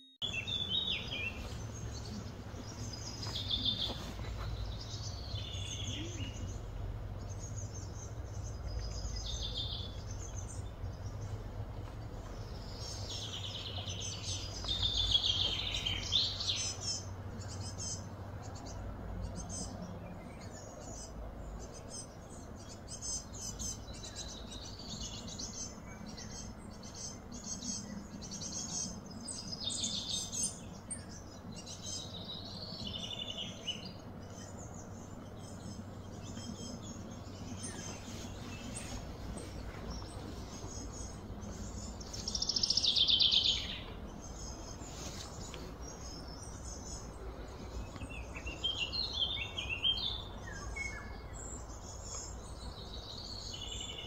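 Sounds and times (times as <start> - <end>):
birds chirping: 0.0 - 54.0
low hum: 0.2 - 54.0.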